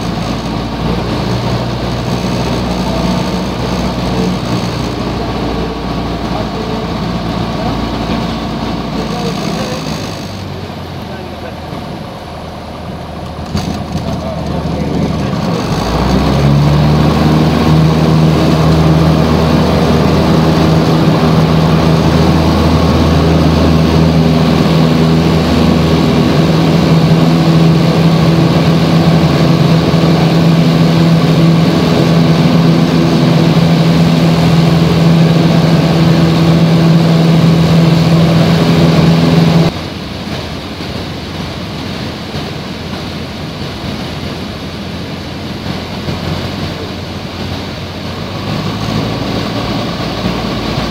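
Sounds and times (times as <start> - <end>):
propeller plane engine drone: 0.0 - 50.9.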